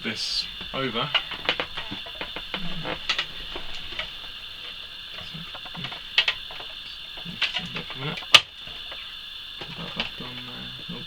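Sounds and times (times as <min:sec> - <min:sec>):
plastic parts clicking and knocking: 0:00.7 - 0:10.5.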